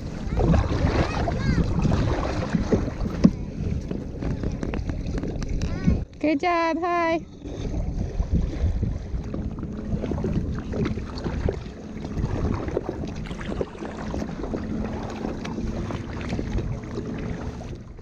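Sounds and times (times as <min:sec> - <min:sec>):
paddle splashing water: 0:00.0 - 0:18.0
wind on microphone: 0:00.0 - 0:18.0.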